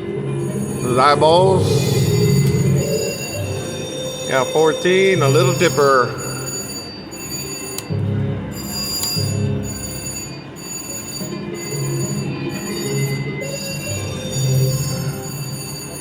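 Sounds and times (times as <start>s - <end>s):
slot machine electronic music: 0.0s - 16.0s.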